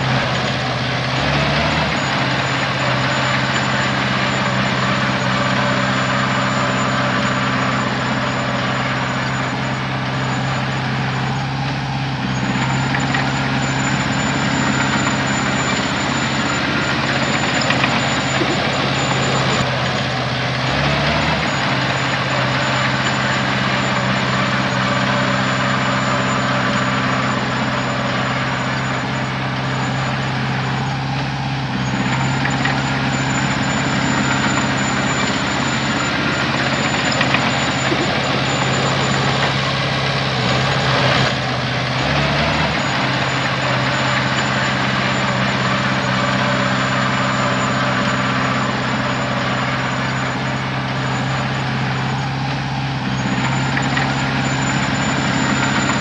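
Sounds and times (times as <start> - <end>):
heavy diesel engine running: 0.0 - 56.0
thin high whine: 0.0 - 56.0.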